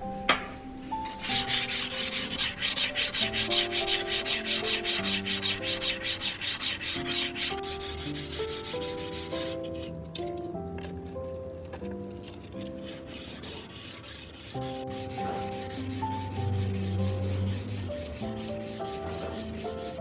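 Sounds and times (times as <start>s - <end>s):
background music: 0.0s - 20.0s
hand sanding strokes: 1.0s - 9.9s, 12.2s - 20.0s.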